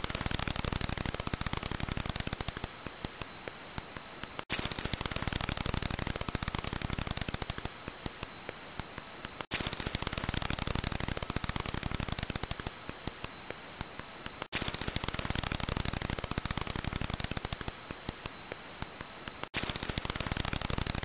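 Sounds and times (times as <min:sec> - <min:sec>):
bat echolocation clicks: 0:00.0 - 0:21.0.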